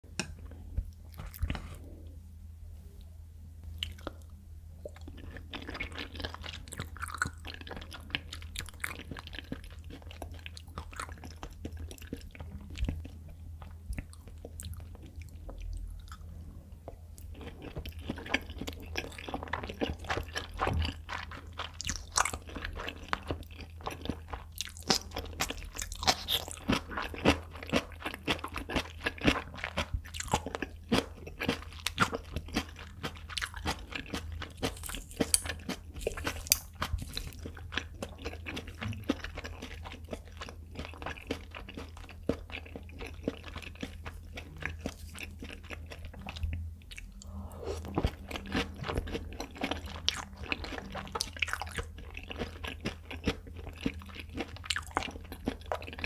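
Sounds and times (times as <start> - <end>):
steady low hum: 0.0 - 27.7, 32.7 - 55.9.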